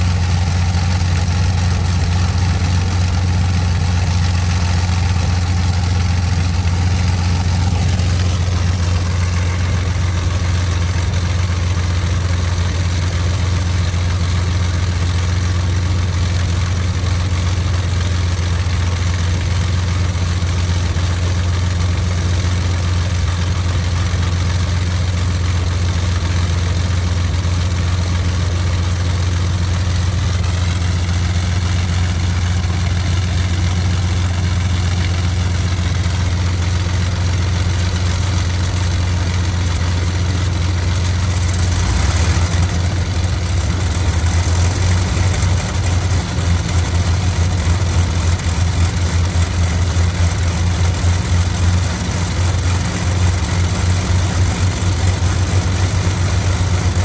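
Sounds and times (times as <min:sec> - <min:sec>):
aircraft engines idling: 0:00.0 - 0:57.0.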